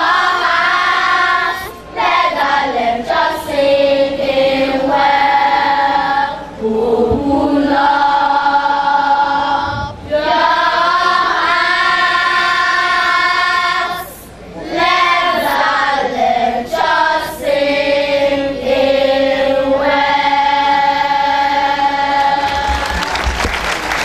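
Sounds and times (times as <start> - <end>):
choir singing: 0.0 - 23.1.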